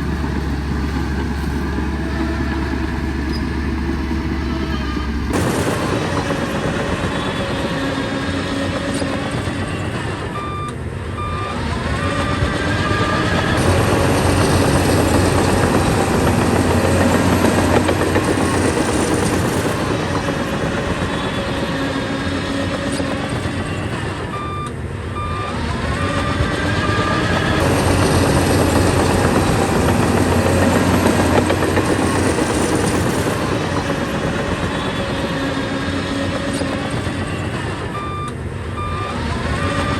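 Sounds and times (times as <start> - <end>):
bulldozer engine and tracks: 0.0 - 39.9.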